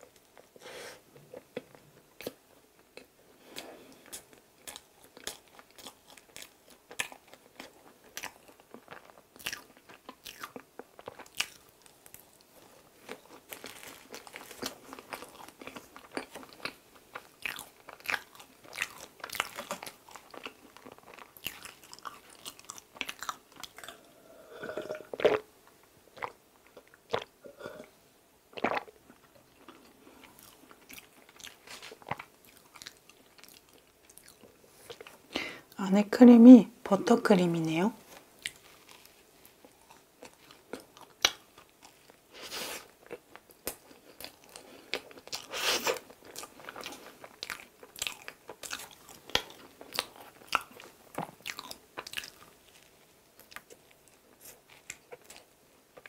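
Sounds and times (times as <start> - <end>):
close chewing of crumbly bread: 0.0 - 27.4, 28.5 - 35.3, 38.0 - 56.0.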